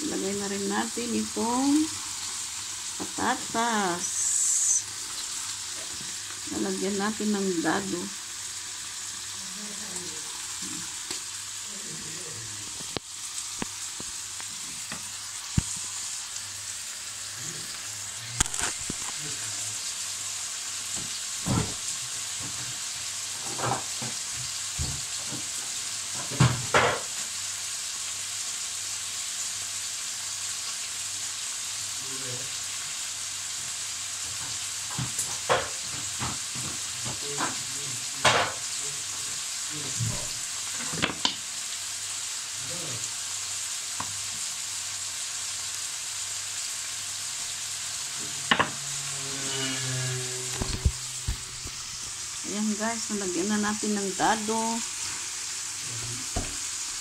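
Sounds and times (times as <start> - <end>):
vegetables sizzling in oil: 0.0 - 57.0.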